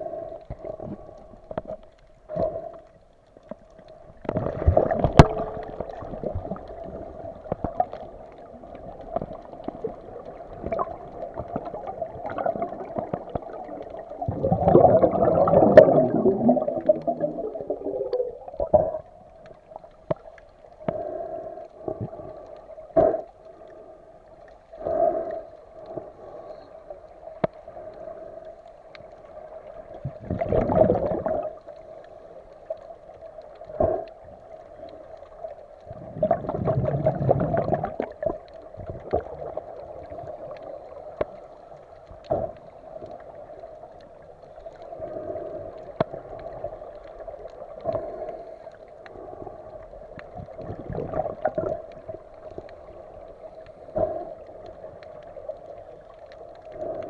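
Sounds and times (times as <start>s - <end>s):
underwater bubble bursts: 3.8s - 23.3s, 29.2s - 31.9s, 32.6s - 48.4s, 49.0s - 57.0s.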